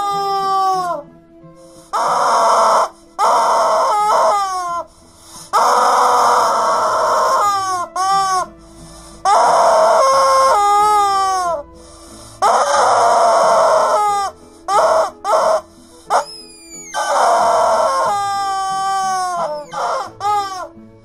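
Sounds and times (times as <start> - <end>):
rubber chicken toy squawking: 0.0 - 1.0, 1.9 - 8.5, 9.2 - 11.6, 12.4 - 20.7.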